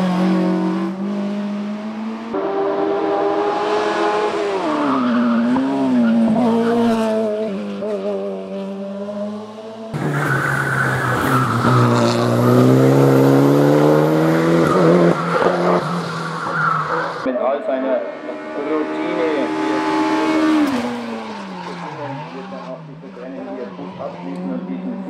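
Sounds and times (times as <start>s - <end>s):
car accelerating: 0.0s - 25.0s
race car engine at high revs: 0.0s - 25.0s.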